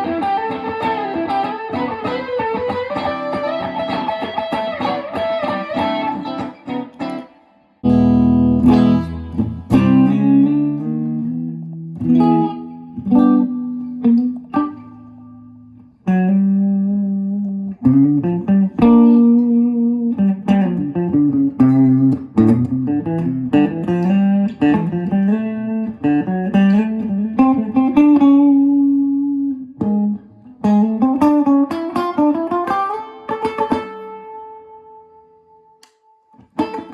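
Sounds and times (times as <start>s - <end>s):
solo guitar playing: 0.0s - 36.9s.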